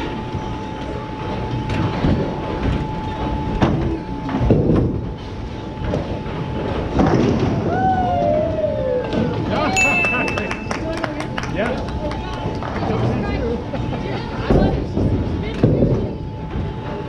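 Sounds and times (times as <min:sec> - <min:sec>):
bowling ball rolling: 0:00.0 - 0:17.0.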